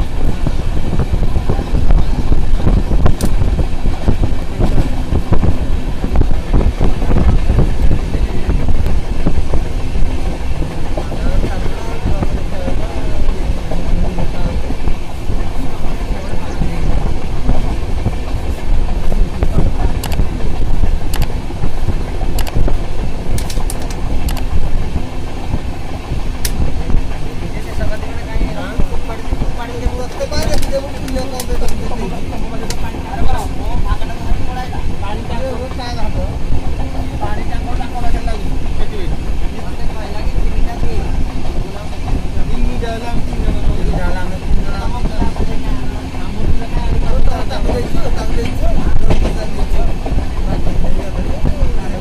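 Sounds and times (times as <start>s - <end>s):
train rumbling with knocks: 0.0s - 52.0s
wind buffeting microphone: 0.0s - 52.0s
wheels clicking over rail joints: 2.2s - 52.0s.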